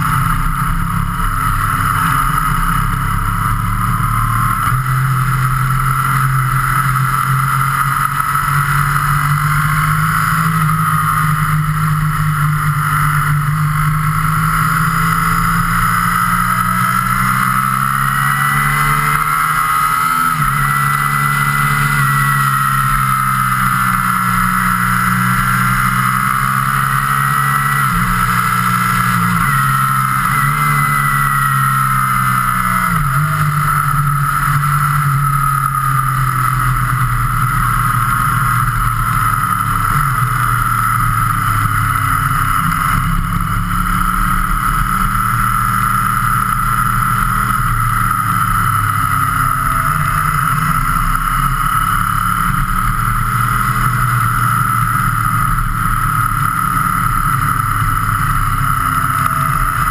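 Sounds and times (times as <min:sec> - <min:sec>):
vehicle engine cruising: 0:00.0 - 0:59.9.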